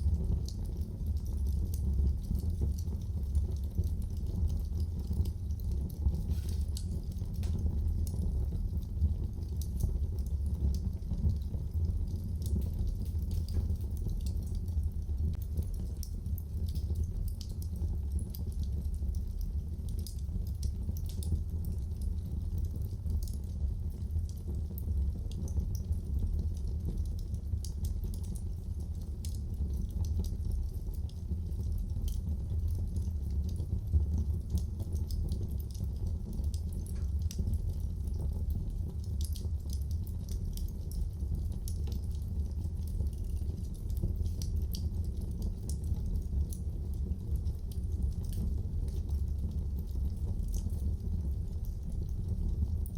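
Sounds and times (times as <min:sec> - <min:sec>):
fire crackles and pops: 0:00.0 - 0:52.9
fire rumbling in fireplace: 0:00.0 - 0:52.9.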